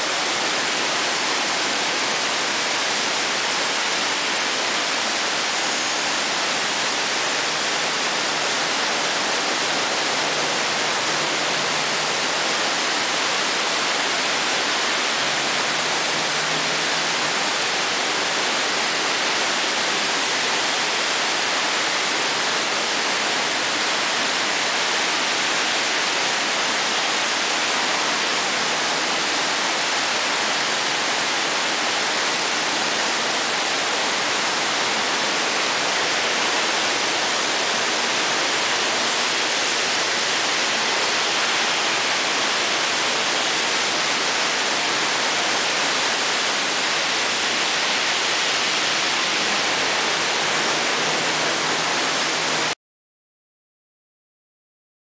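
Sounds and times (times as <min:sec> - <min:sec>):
rushing creek water: 0:00.0 - 0:52.8.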